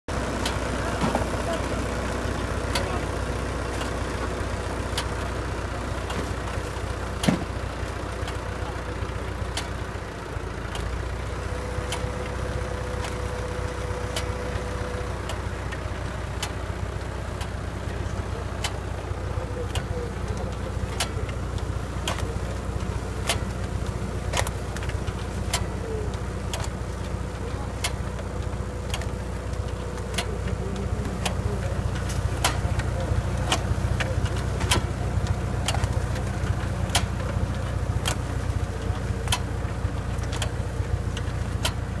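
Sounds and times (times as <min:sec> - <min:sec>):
tractor engine running: 0:00.0 - 0:42.0
planter clicking: 0:00.1 - 0:42.0.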